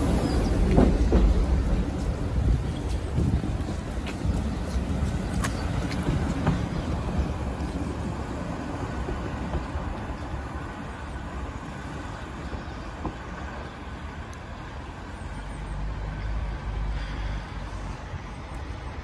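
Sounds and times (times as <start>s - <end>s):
train coaches rumbling: 0.0s - 19.0s.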